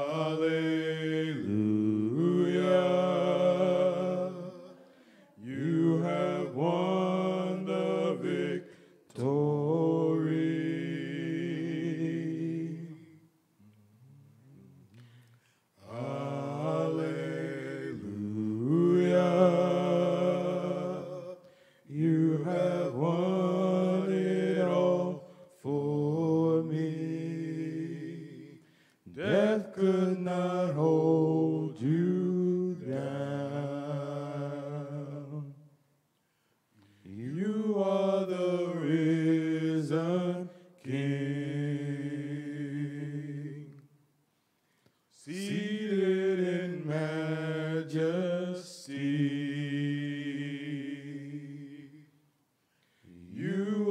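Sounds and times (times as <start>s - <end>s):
male voices singing in harmony: 0.0s - 13.2s, 15.8s - 35.7s, 37.0s - 43.9s, 45.1s - 52.2s, 53.0s - 53.9s.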